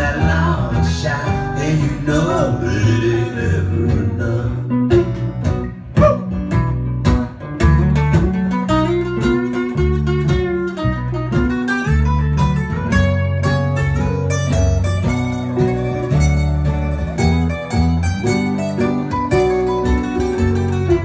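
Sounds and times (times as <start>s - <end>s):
acoustic guitars strumming: 0.0s - 21.0s
bass notes: 0.0s - 21.0s.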